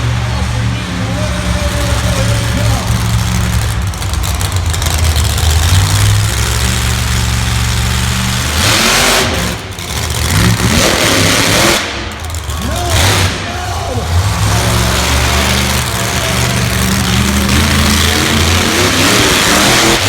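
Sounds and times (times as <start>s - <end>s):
loud rush of noise: 0.0s - 20.0s
monster truck engine droning: 0.0s - 20.0s.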